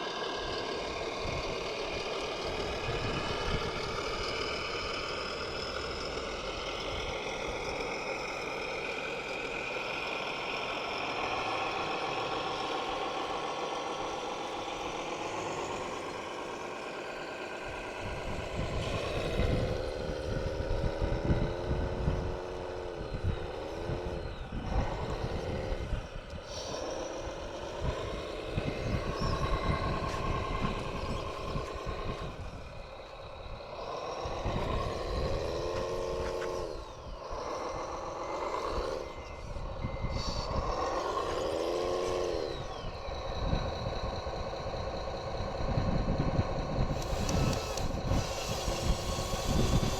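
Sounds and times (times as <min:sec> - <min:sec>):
small electric motors whining: 0:00.0 - 0:49.9.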